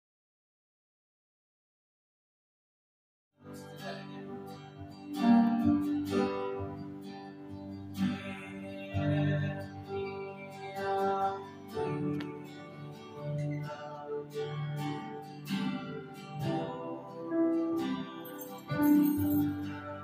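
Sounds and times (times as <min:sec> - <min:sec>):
acoustic guitar strumming: 0:03.4 - 0:20.0
keyboard playing: 0:03.4 - 0:20.0.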